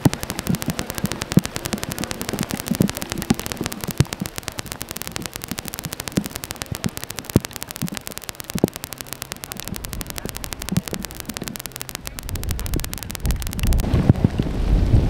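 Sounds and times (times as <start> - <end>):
lava crackling: 0.0 - 15.0.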